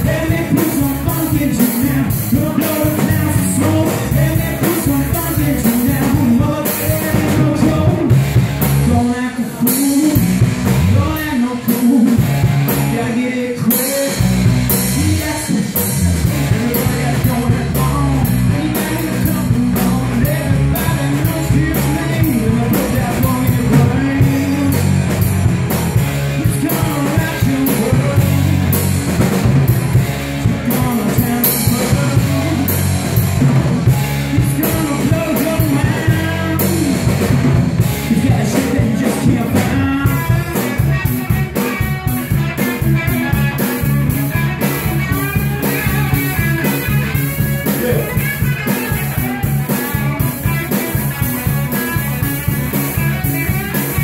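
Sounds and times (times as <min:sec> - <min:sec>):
drum kit: 0:00.0 - 0:54.0
electric bass guitar: 0:00.0 - 0:54.0
electric guitar: 0:00.0 - 0:54.0.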